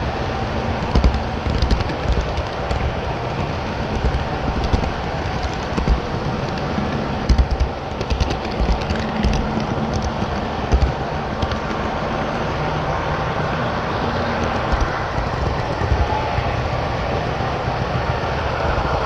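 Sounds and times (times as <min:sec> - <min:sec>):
model train clicks and thumps: 0:00.0 - 0:19.0
model train rumbling: 0:00.0 - 0:19.0.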